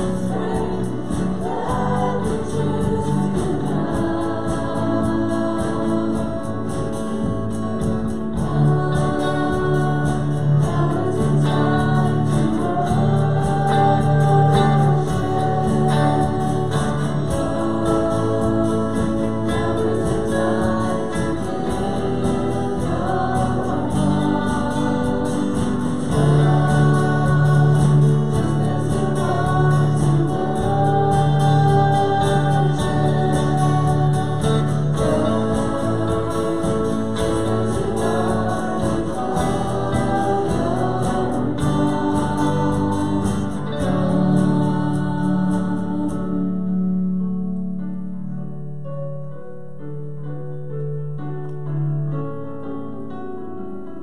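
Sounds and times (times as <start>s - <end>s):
congregation singing a hymn: 0.0s - 47.0s
guitar: 0.0s - 54.0s.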